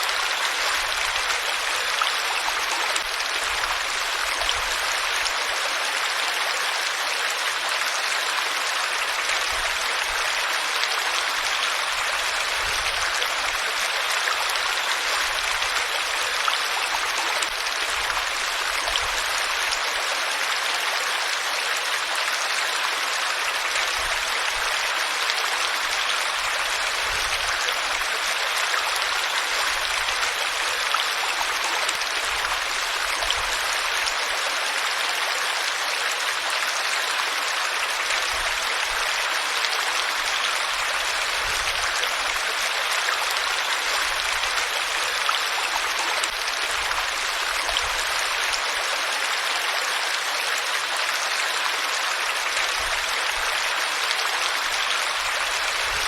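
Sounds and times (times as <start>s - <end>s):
water flowing steadily: 0.0s - 56.0s.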